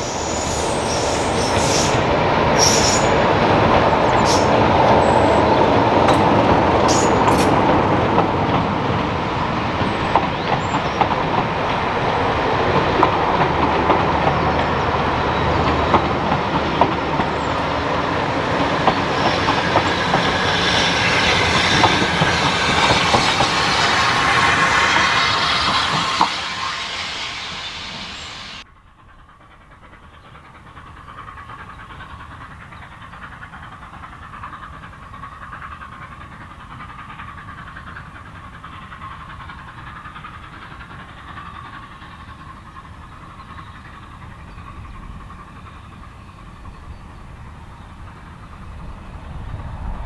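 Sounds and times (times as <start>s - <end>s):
distant train rumble and hiss: 0.0s - 50.0s
train passing close: 0.0s - 50.0s.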